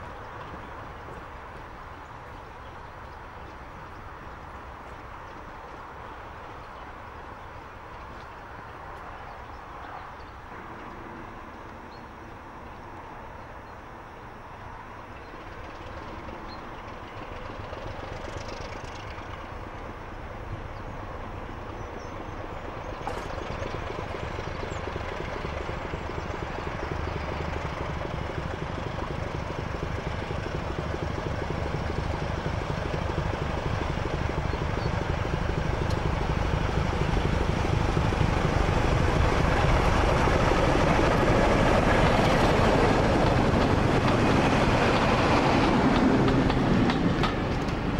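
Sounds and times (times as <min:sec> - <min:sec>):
diesel locomotive engine: 0:00.0 - 0:47.9.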